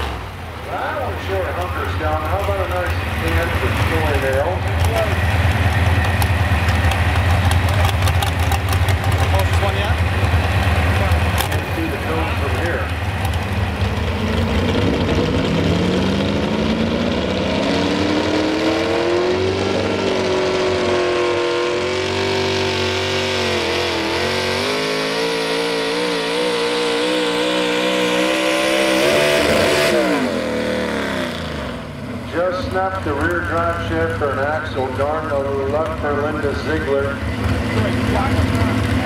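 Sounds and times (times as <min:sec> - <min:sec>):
truck engine revving under load: 0:00.0 - 0:39.0.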